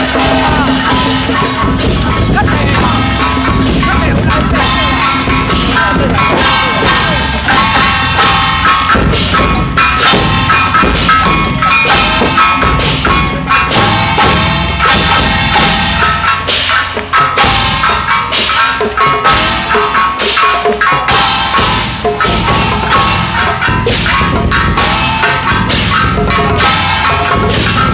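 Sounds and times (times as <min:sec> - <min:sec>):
drums beating a rhythm: 0:00.0 - 0:27.9
gongs and cymbals clashing: 0:00.0 - 0:27.9.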